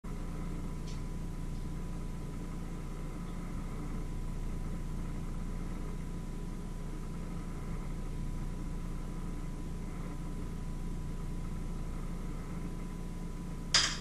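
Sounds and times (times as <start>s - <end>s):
low machine hum: 0.0s - 14.0s
thin steady whine: 0.1s - 14.0s.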